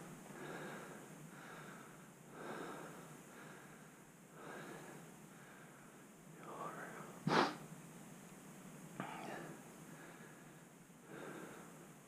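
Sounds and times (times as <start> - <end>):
person breathing: 0.0 - 7.6, 9.0 - 12.0.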